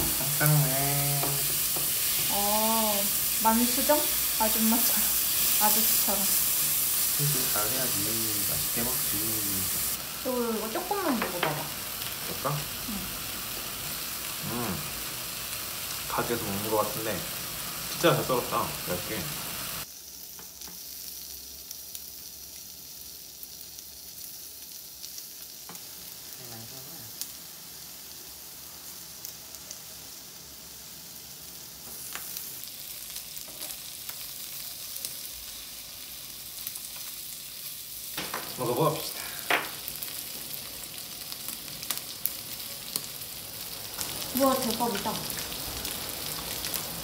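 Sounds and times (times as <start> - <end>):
fish sizzling on a grill: 0.0 - 47.0.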